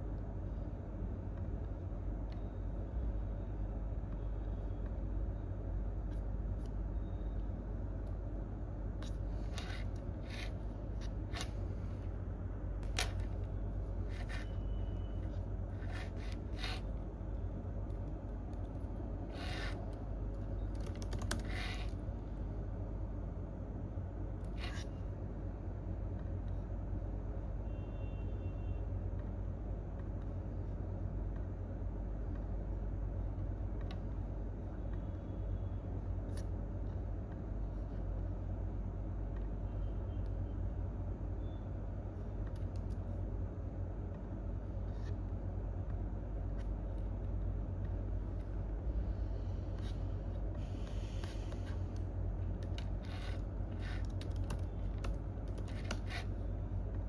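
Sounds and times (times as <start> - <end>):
low office rumble: 0.0 - 57.0.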